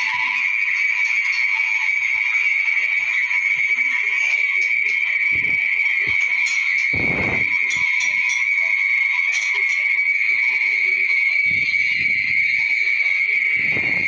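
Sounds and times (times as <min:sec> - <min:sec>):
high-pitched animal chorus: 0:00.0 - 0:14.0.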